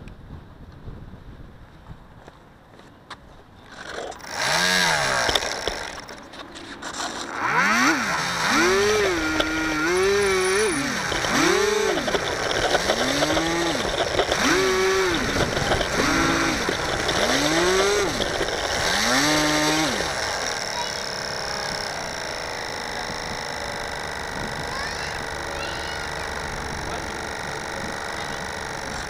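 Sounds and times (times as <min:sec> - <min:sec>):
electric motor and propeller whirring: 0:03.4 - 0:29.0.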